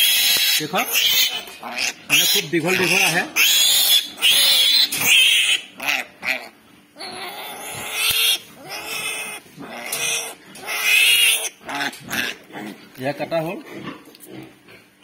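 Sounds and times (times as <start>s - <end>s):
piglet squealing: 0.0s - 12.4s.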